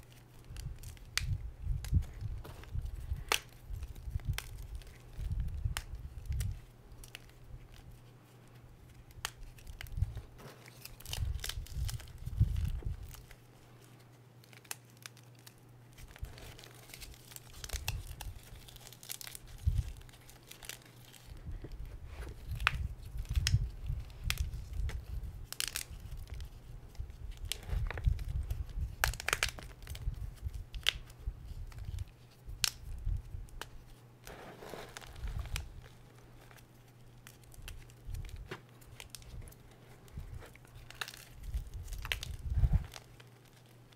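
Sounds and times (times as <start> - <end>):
hands crushing chalk: 0.0 - 43.7.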